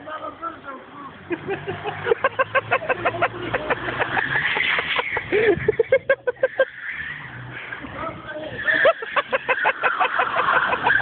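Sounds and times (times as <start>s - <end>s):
van engine humming past: 0.0s - 11.0s.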